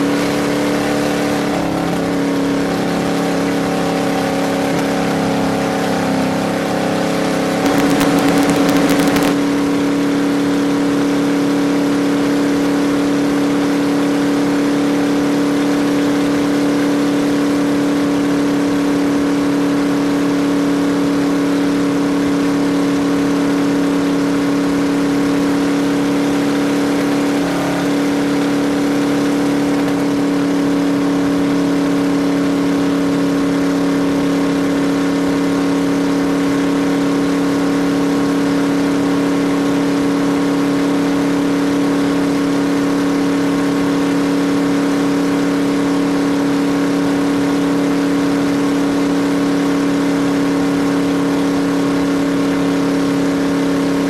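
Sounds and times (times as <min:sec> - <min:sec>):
engine droning steadily: 0:00.0 - 0:54.0.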